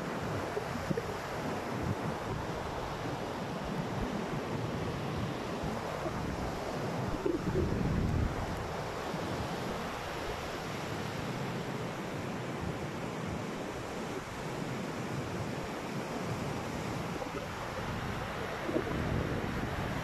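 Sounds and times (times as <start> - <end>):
wind blowing across microphone: 0.0 - 20.0.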